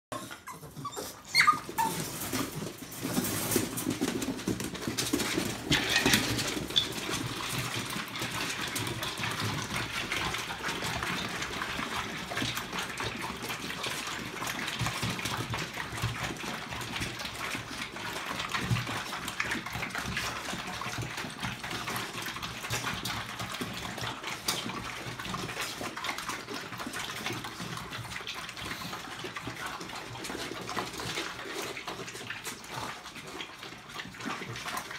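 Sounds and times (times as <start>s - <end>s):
puppies slurping and chewing: 0.1s - 34.9s.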